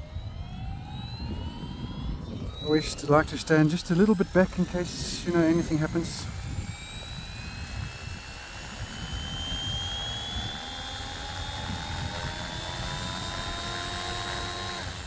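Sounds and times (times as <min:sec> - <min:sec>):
rc helicopter motor whine and rotor: 0:00.0 - 0:15.0.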